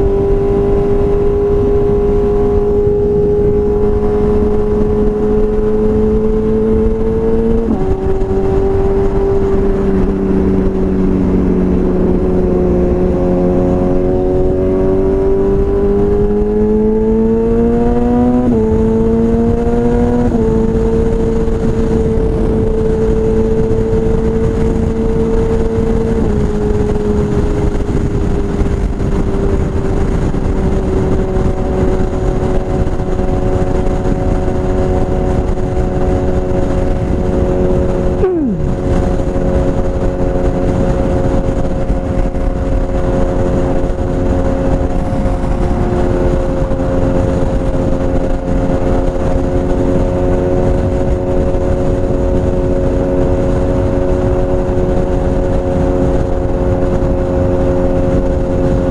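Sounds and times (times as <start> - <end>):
motorcycle engine running steadily: 0.0 - 58.9.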